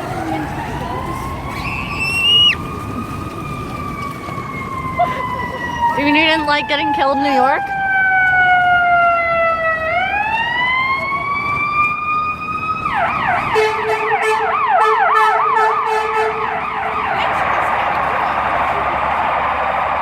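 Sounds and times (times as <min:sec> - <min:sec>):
emergency vehicle siren: 0:00.0 - 0:20.0
steady lower siren tone: 0:00.0 - 0:20.0.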